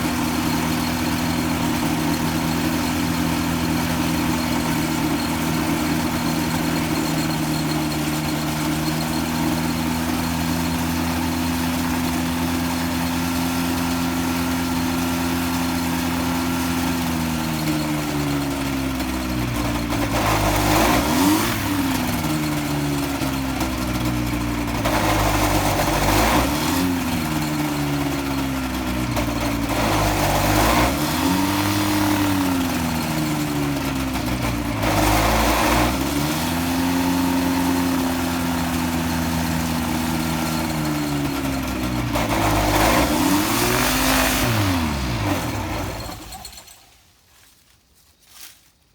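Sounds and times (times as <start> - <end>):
two-stroke engine running: 0.0 - 47.0.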